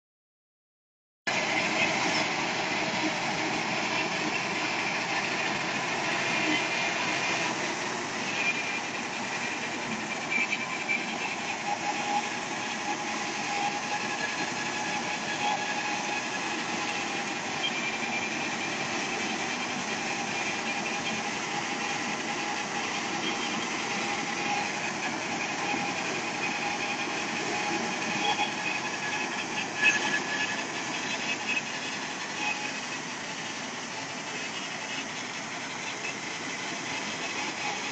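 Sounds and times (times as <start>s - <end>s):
harvester engine drone: 1.3s - 37.9s.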